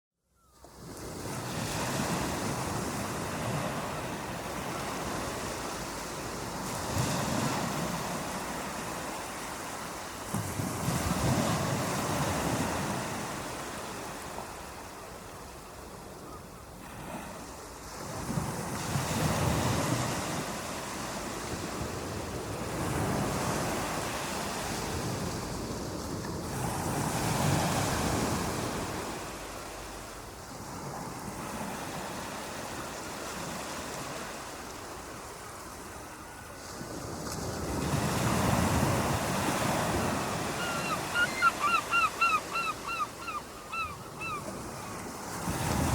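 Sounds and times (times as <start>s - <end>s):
ocean waves breaking on shore: 0.6s - 45.9s.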